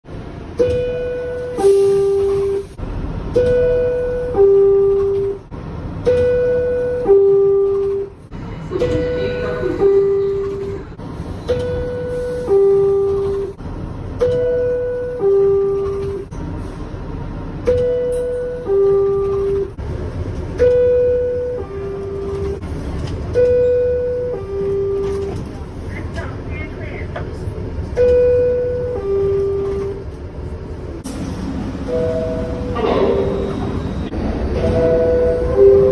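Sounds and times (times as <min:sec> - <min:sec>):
train rumble: 0:00.0 - 0:35.9.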